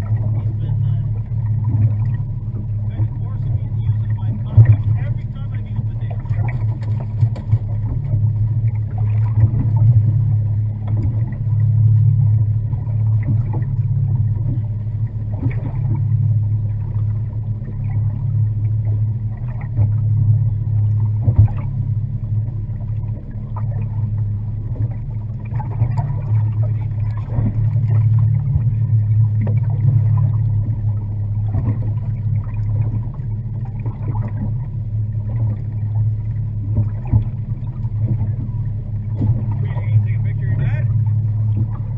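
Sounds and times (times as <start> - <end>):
boat motor running: 0.0 - 41.9.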